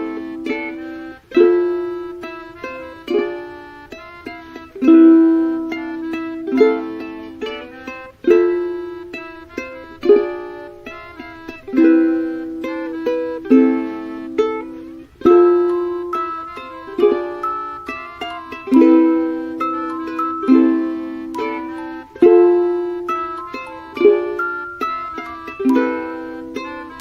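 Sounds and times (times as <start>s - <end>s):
plucked string instrument music: 0.0s - 27.0s.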